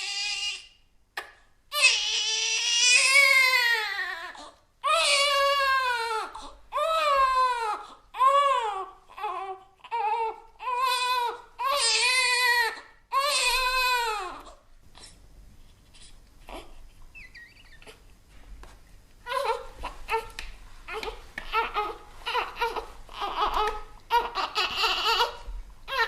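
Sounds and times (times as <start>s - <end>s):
infant crying: 0.0s - 0.7s, 1.7s - 15.1s, 19.2s - 26.0s.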